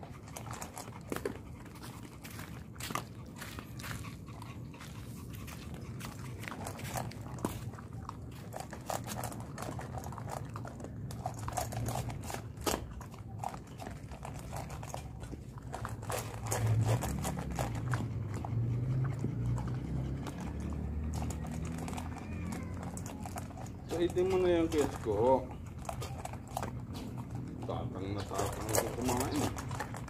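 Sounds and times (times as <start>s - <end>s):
dogs crunching dry kibble: 0.0s - 30.0s.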